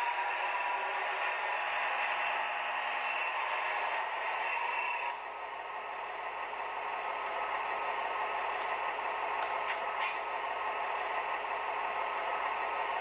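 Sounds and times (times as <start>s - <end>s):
diesel engine sound from small loudspeaker: 0.0s - 13.0s.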